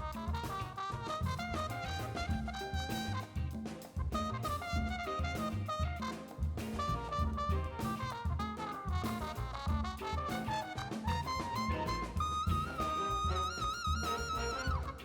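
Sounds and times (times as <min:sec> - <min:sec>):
brass melody: 0:00.0 - 0:15.0
drums and bass: 0:00.0 - 0:15.0
jazz instrumental music: 0:00.0 - 0:15.0.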